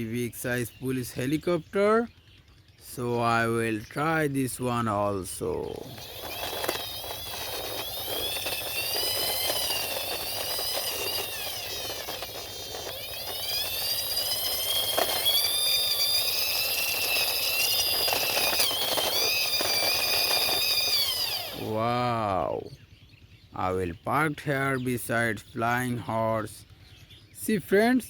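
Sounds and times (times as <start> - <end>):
toy wheels rolling: 0.0 - 22.7
toy helicopter whine: 0.0 - 28.0.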